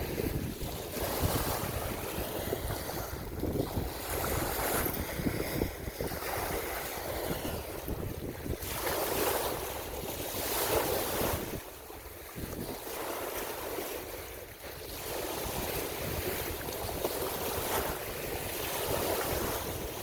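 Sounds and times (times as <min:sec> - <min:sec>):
sea waves washing in: 0:00.0 - 0:20.0
wind rumbling on microphone: 0:00.0 - 0:20.0.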